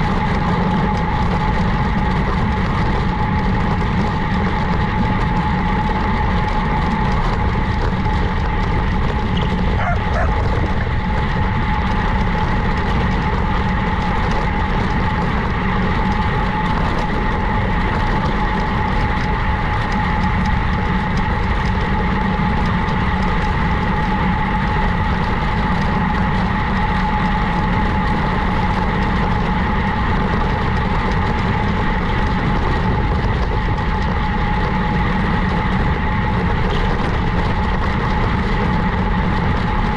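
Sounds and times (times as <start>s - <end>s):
constant high whine: 0.0s - 39.9s.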